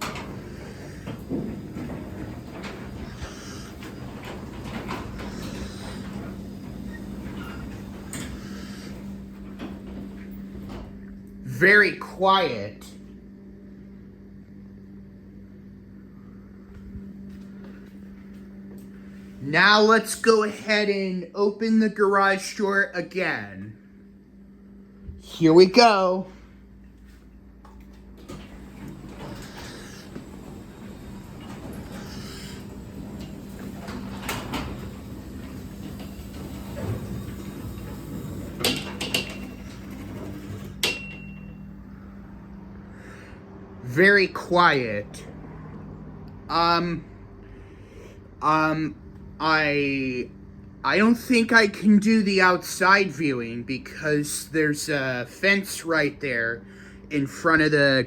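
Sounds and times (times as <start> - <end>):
garage door opener humming: 0.0 - 58.0.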